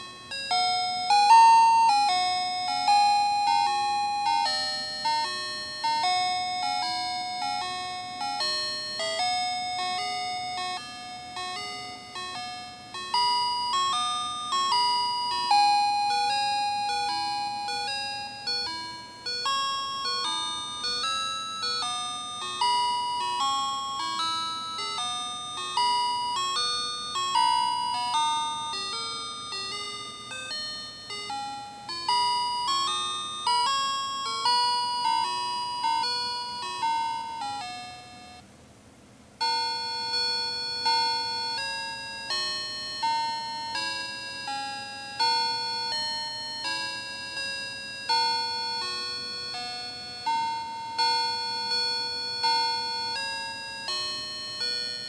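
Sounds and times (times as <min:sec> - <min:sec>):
toy playing chime tune: 0:00.0 - 0:38.4, 0:39.4 - 0:55.0.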